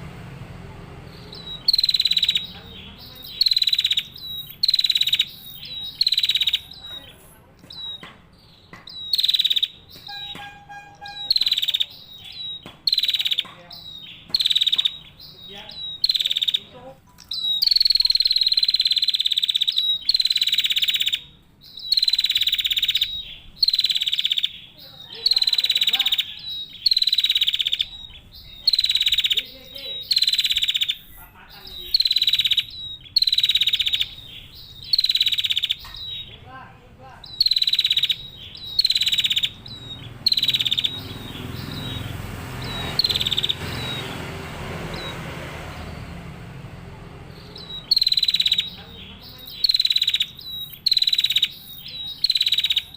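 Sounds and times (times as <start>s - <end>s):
bird buzzy trills: 0.0s - 52.9s.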